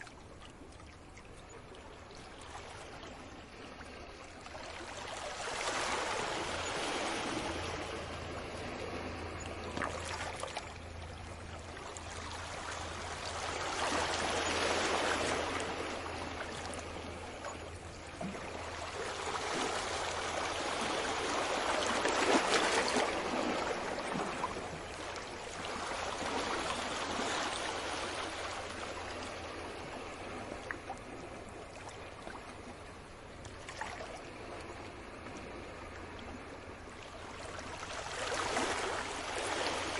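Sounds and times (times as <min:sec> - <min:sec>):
sea waves washing in: 0:02.0 - 0:39.9
steady low hum: 0:05.9 - 0:38.0.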